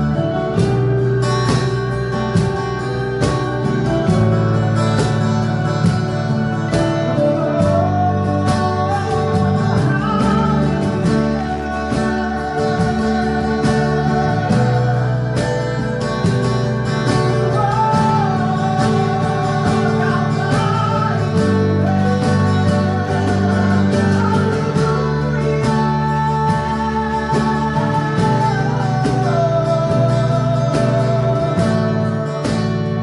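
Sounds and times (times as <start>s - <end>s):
strummed guitar: 0.0s - 33.0s
person singing long notes: 5.2s - 33.0s.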